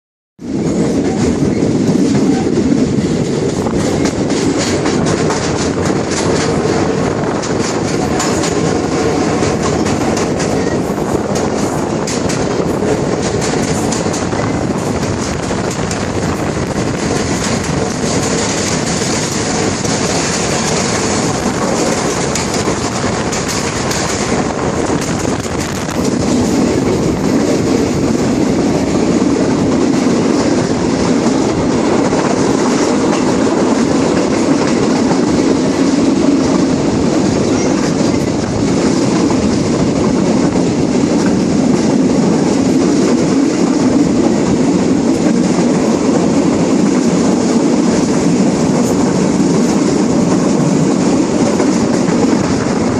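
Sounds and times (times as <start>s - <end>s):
train wheels rumbling and clacking: 0.4s - 52.9s.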